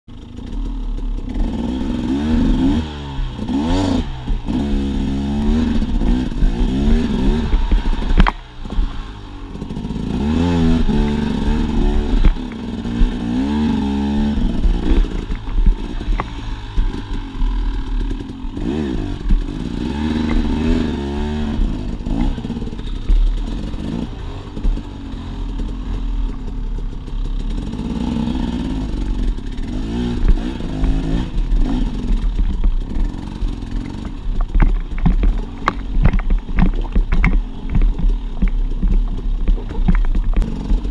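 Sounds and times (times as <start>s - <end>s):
dirt bike engine revving: 0.1s - 40.9s.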